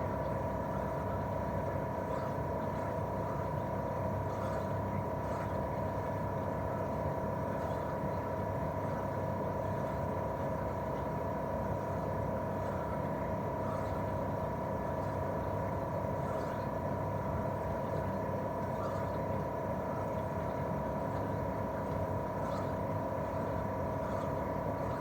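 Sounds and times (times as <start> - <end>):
compressor whine: 0.0 - 25.0
fan hum and rush: 0.0 - 25.0.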